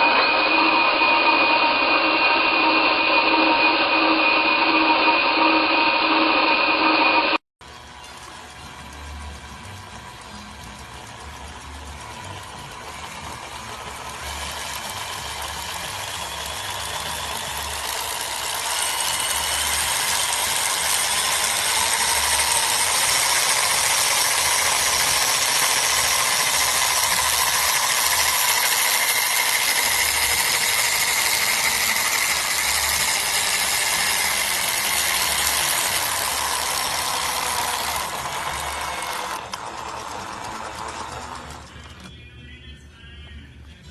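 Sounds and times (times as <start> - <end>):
gear train mechanical whirr: 0.0 - 43.9.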